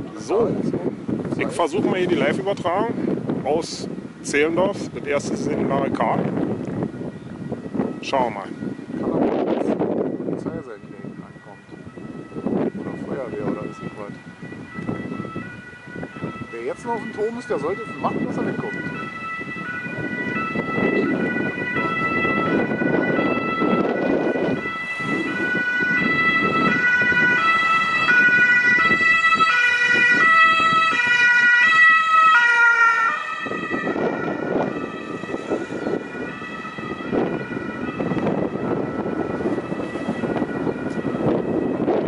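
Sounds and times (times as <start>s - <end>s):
two-tone emergency siren: 0.0s - 3.0s, 4.4s - 42.0s
wind rumbling on microphone: 0.0s - 42.0s.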